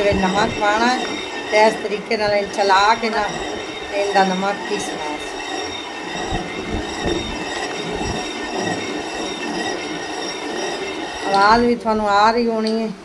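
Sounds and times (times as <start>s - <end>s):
millstone grinding salt: 0.0s - 12.7s.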